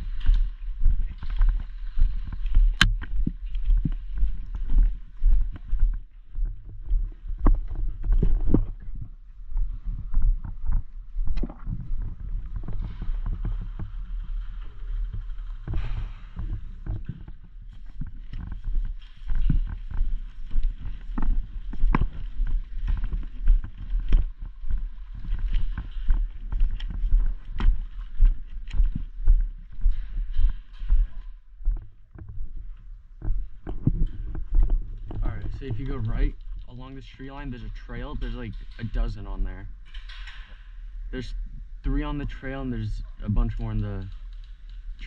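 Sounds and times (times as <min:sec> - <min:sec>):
sharp clicks and crunches: 0:00.0 - 0:04.9, 0:11.3 - 0:29.1, 0:29.9 - 0:45.0
footsteps on rough ground: 0:00.0 - 0:45.0
gear rustling and knocking: 0:00.0 - 0:45.0.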